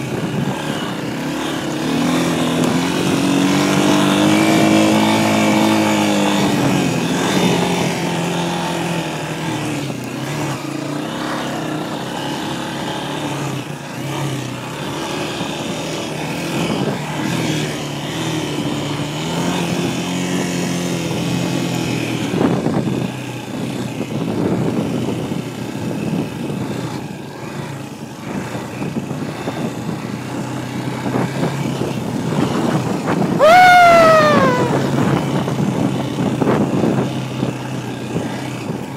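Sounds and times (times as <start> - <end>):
dirt bike engine running: 0.0 - 32.6.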